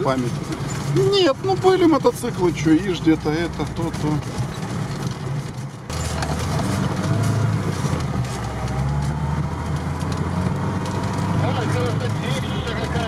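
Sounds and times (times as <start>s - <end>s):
road noise: 0.0s - 13.0s
vehicle engine and drivetrain hum: 0.0s - 13.0s.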